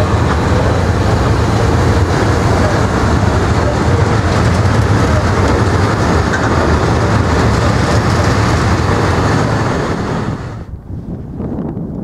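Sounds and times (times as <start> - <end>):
freight train passing: 0.0 - 11.0.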